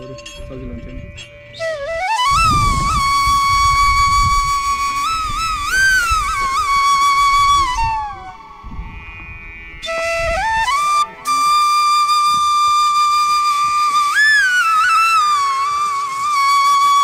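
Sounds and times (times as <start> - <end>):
flute-like melody: 0.0 - 17.0.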